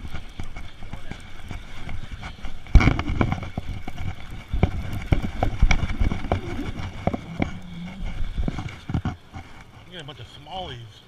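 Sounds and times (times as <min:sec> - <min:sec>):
fishing reel and rod knocking: 0:00.0 - 0:09.8.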